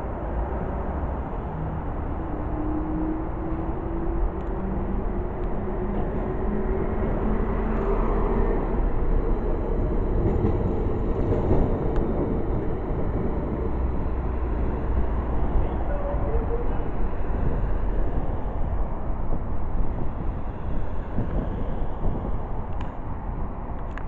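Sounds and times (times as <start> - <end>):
road traffic: 0.0 - 24.0
tram wheels rumbling on rails: 0.0 - 24.0.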